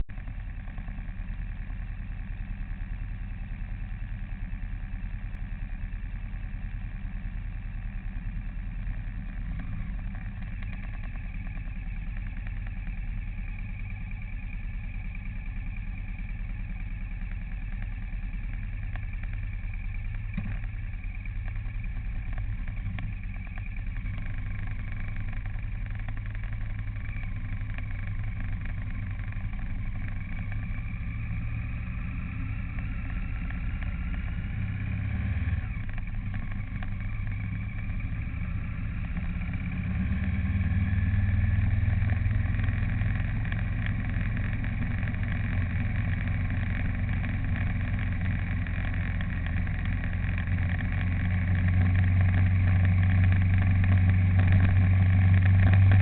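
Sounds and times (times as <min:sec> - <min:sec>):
road noise: 0:00.0 - 0:56.0
vehicle engine humming: 0:00.0 - 0:56.0.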